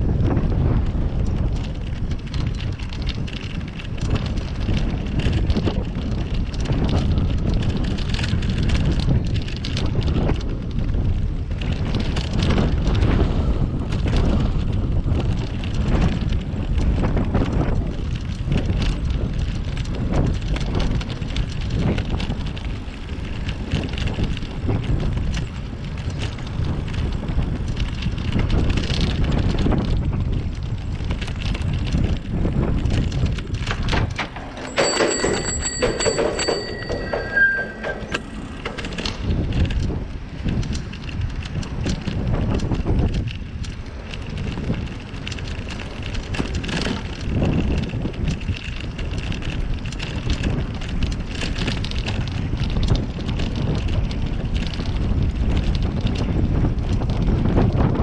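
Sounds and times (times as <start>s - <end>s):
bicycle rattling and clicking: 0.0s - 58.0s
wind buffeting microphone: 0.0s - 58.0s.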